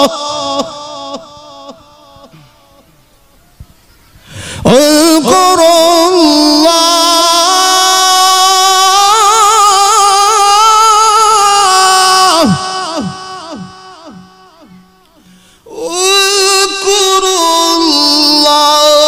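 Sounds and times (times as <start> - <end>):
man chanting with vibrato: 0.0 - 3.4, 4.4 - 19.0.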